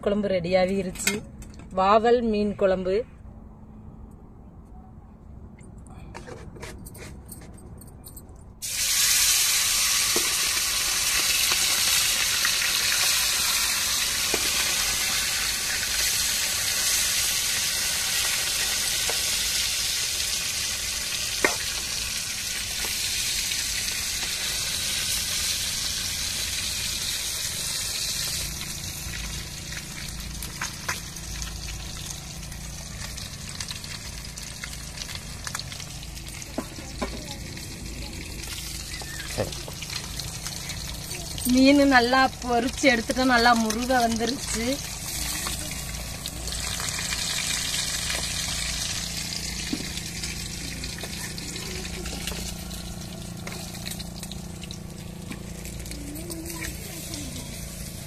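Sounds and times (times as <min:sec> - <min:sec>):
fish sizzling in hot oil: 0:08.6 - 0:58.0.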